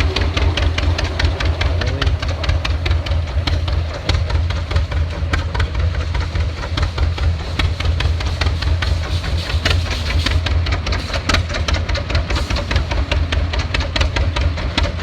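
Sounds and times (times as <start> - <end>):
engine clattering and ticking: 0.0 - 15.0
old engine running: 0.0 - 15.0.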